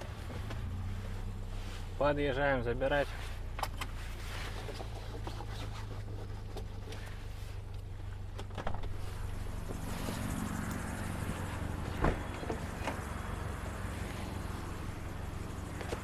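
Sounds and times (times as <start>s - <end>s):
car engine humming: 0.0s - 16.0s
road noise: 0.0s - 16.0s.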